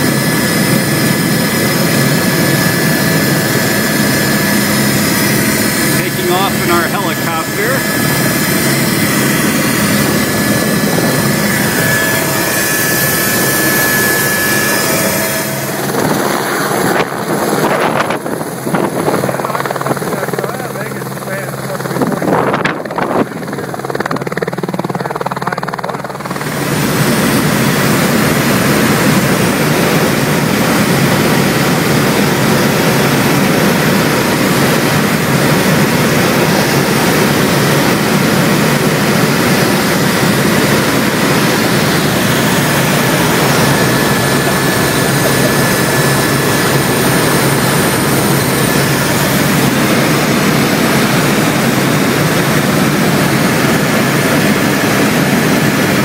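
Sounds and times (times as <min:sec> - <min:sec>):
helicopter engine and rotor noise: 0:00.0 - 0:56.0.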